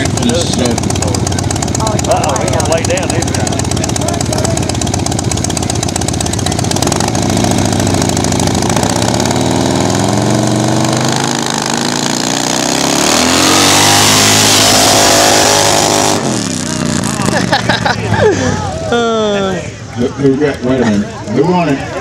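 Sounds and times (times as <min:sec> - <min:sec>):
motorcycle engines accelerating: 0:00.0 - 0:22.0.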